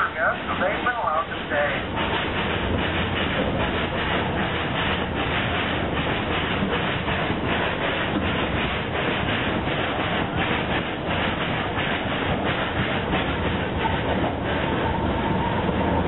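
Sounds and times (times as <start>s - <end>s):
steam train running on track: 0.0s - 16.0s.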